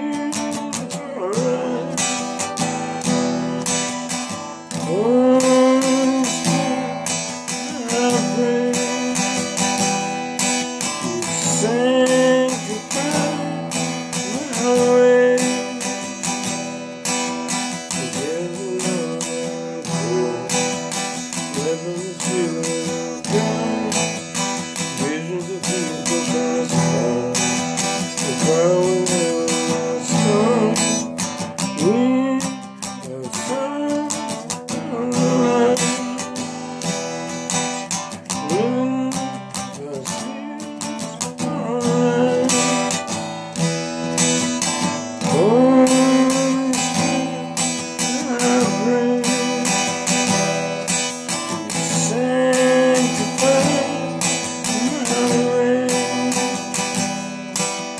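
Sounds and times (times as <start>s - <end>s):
strummed acoustic guitar: 0.0s - 57.9s.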